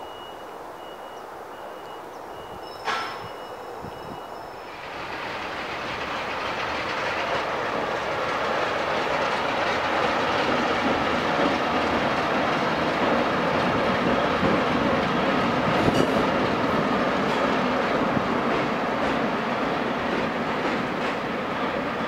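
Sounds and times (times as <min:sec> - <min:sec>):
diesel locomotive passing: 0:00.0 - 0:22.0.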